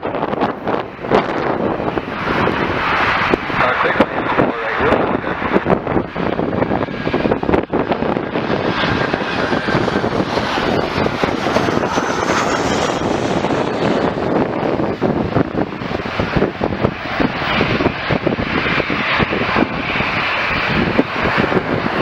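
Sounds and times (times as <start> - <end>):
jet engines roaring: 0.0 - 22.0
wind buffeting microphone: 0.0 - 22.0.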